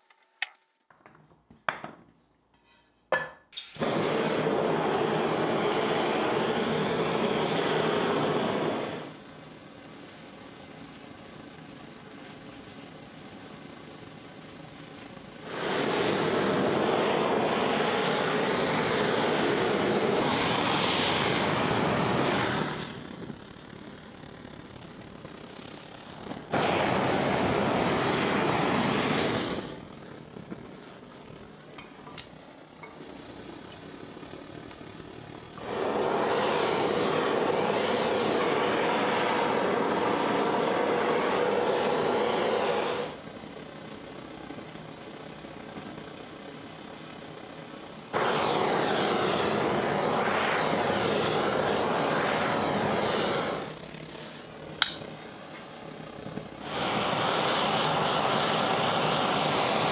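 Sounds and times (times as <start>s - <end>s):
gas torch burning: 3.1s - 59.9s.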